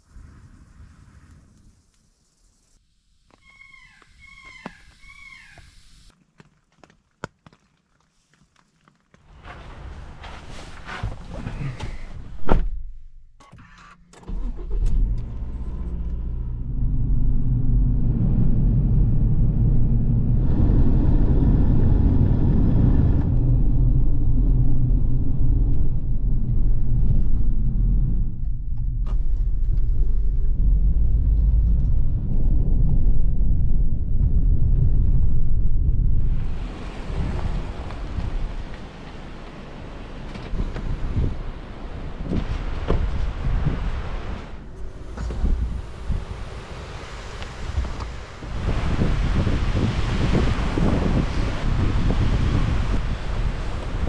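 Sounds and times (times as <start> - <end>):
car engine and tyre rumble: 8.1 - 54.0.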